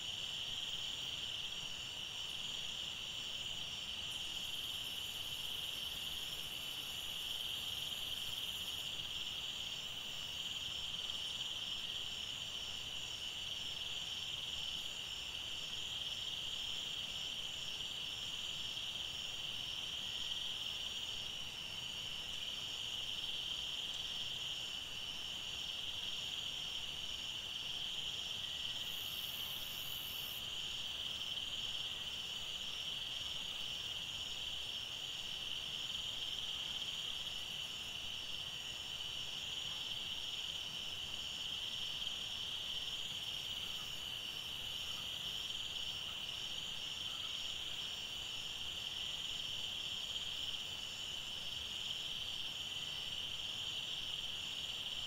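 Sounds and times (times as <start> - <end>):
insects chorus: 0.0 - 55.0
shrill insect layer: 0.0 - 55.0.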